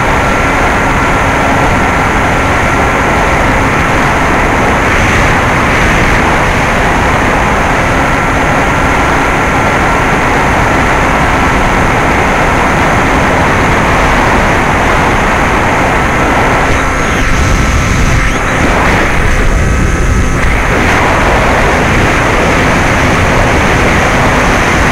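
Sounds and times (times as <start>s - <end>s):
model plane motor whine: 0.0s - 24.9s.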